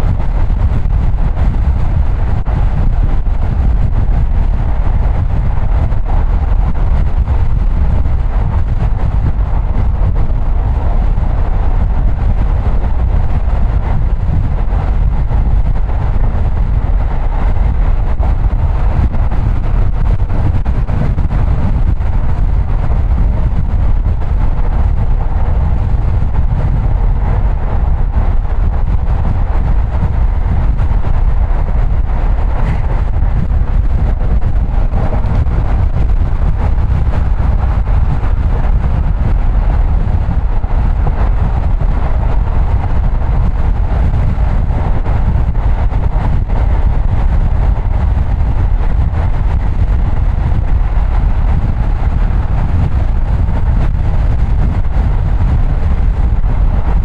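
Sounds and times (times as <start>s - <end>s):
car driving rumble: 0.0s - 57.0s
road and tyre noise: 0.0s - 57.0s.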